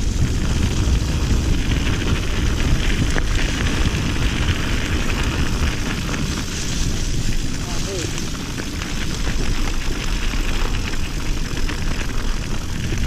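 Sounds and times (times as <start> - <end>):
bike tyres rumbling over trail: 0.0 - 13.0
wind buffeting microphone: 0.0 - 13.0.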